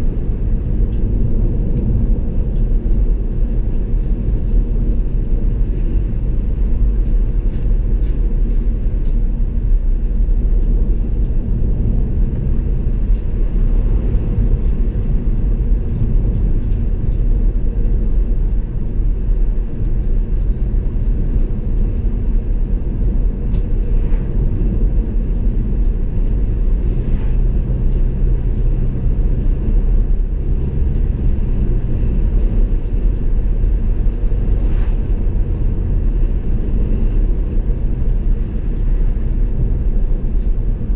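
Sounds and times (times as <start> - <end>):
car engine rumble: 0.0 - 40.9
tyres on road: 0.0 - 40.9.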